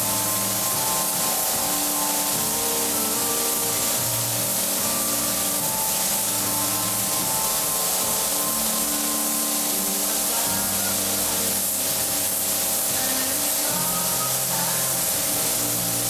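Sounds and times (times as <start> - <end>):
music playing: 0.0 - 16.0
spray gun hissing: 0.0 - 16.0.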